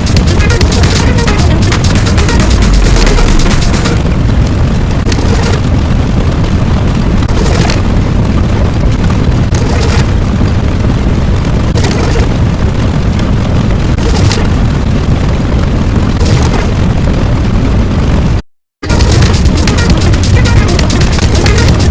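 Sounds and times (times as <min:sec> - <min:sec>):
sharp cracks: 0:00.0 - 0:14.7, 0:18.8 - 0:21.9
rumbling explosion: 0:00.0 - 0:21.9.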